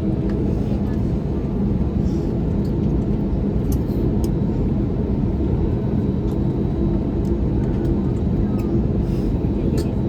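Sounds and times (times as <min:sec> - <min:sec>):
aircraft engines idling rumble: 0:00.0 - 0:10.0.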